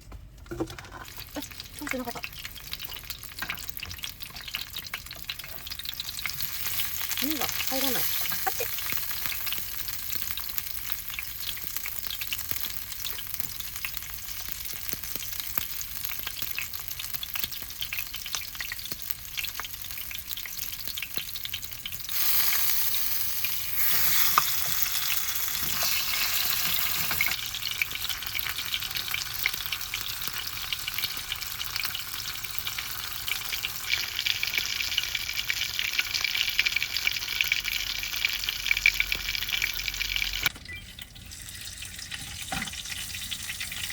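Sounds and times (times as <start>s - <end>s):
chicken sizzling in a pan: 0.8s - 40.5s, 41.2s - 43.9s.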